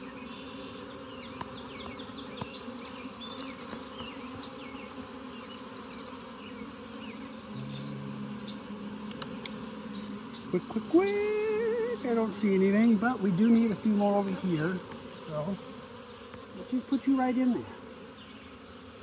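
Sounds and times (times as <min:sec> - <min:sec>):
honeybees buzzing: 0:00.0 - 0:19.0
single bee flying near: 0:00.0 - 0:19.0.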